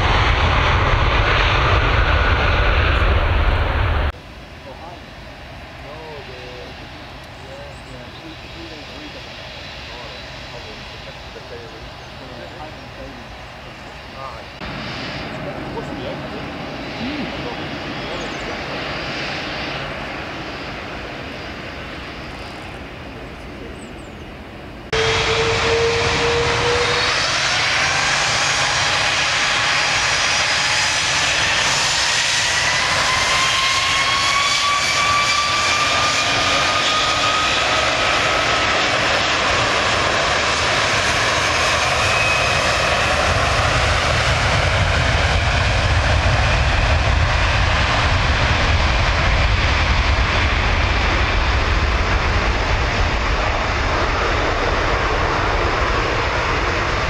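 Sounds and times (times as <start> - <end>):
heavy low rumble: 0.0 - 30.2, 37.7 - 57.0
jet engines spooling up: 0.0 - 57.0.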